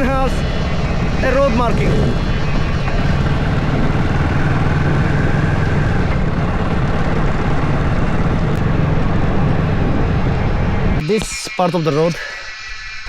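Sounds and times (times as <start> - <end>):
vehicle driving on paved road: 0.0 - 11.3.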